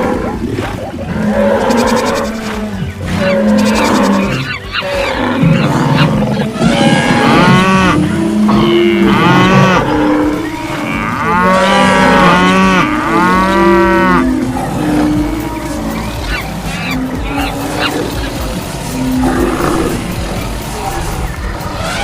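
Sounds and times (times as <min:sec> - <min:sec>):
cattle mooing: 0:00.0 - 0:22.0.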